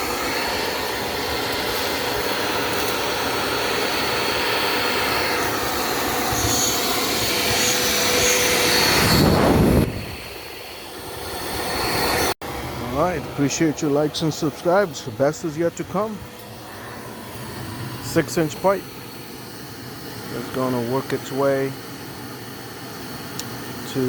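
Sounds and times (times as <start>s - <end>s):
loud steady rushing noise: 0.0s - 24.0s.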